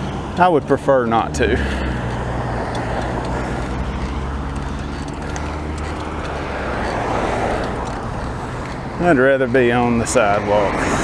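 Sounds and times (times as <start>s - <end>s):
road and traffic noise: 0.0s - 11.0s
vehicle passing: 0.0s - 11.0s.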